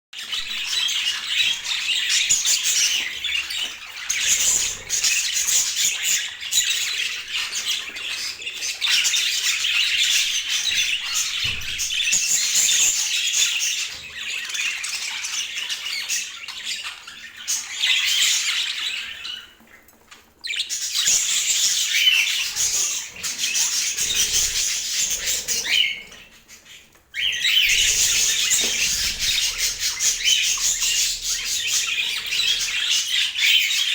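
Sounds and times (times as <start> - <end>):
budgerigars chattering: 0.3 - 19.6, 20.5 - 33.9.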